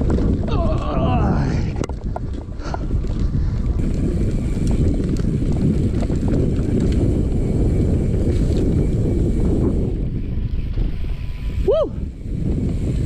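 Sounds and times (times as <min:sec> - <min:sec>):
bike clicks and rattles: 0:00.0 - 0:13.0
tyres rumbling on dirt: 0:00.0 - 0:13.0
wind buffeting microphone: 0:00.0 - 0:13.0.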